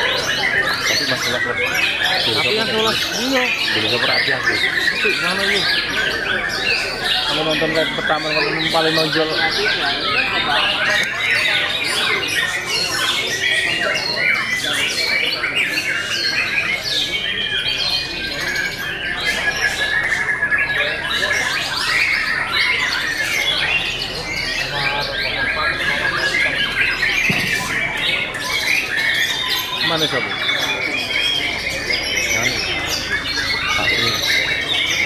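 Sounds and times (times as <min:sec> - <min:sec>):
other songbirds: 0:00.0 - 0:35.0.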